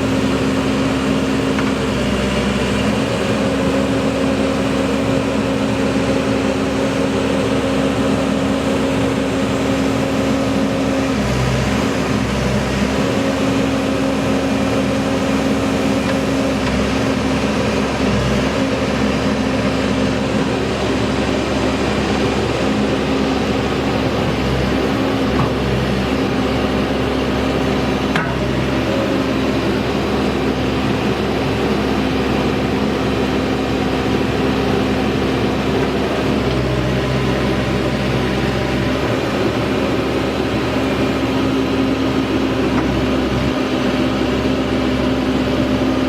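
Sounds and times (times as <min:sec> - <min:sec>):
backhoe diesel engine running: 0:00.0 - 0:46.0.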